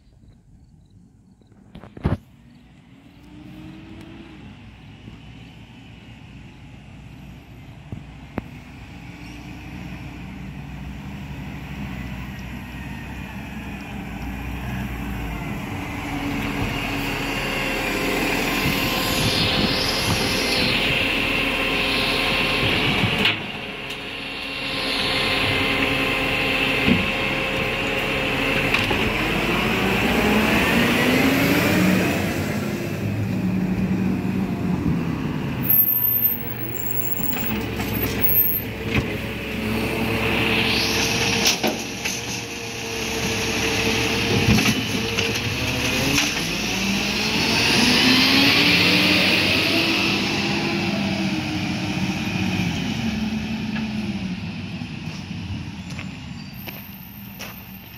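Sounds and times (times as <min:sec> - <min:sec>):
garbage truck diesel engine: 0:00.0 - 0:57.9
hydraulics whining: 0:07.1 - 0:57.9.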